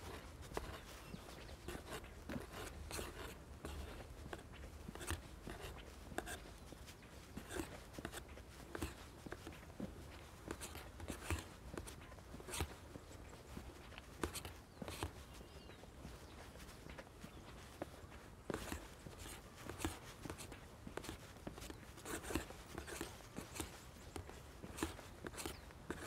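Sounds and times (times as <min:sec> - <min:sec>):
footsteps walking: 0:00.0 - 0:26.0.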